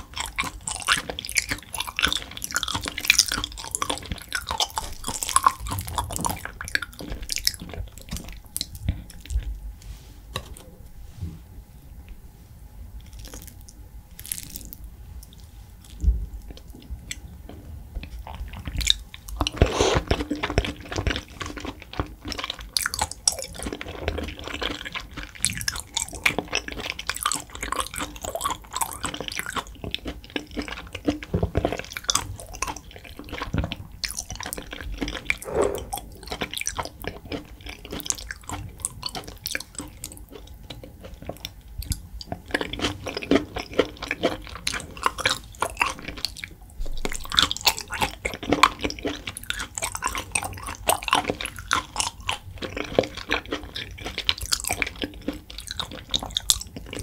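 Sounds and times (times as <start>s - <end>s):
wet chewing mouth sounds: 0.0s - 9.5s, 18.0s - 57.0s.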